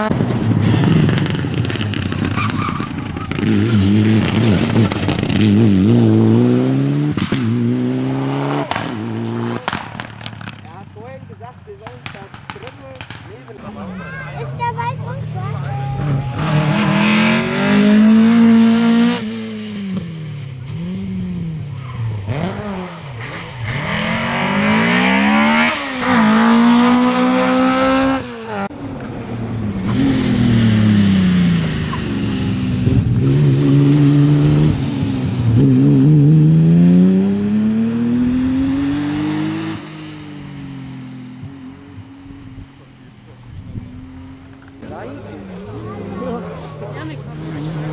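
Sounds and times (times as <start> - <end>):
rally car engine revving: 0.0 - 10.7, 13.0 - 47.9.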